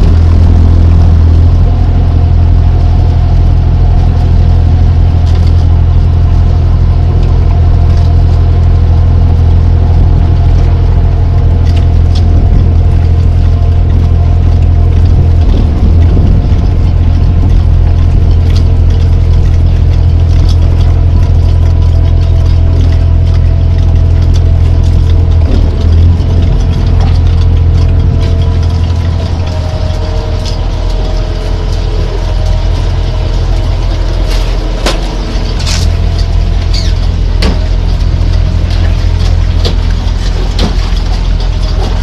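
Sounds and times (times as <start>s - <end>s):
boat engine drone: 0.0s - 42.0s
deep hum: 0.0s - 42.0s.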